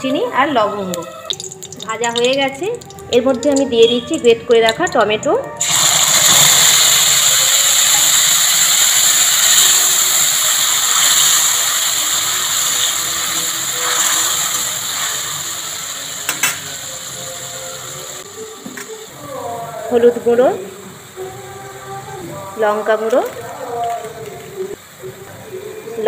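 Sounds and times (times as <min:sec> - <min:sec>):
tomato sizzling in hot oil: 0:00.0 - 0:26.0.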